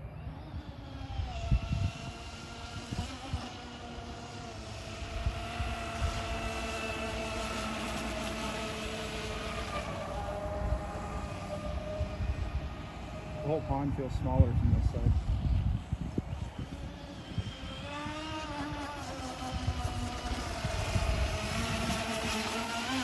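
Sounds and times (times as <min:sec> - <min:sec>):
model boat motor whine: 0:00.0 - 0:23.0.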